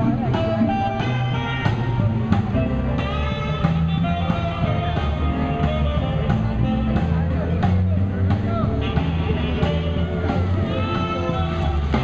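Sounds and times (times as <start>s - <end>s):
music with guitar and drums: 0.0s - 12.0s.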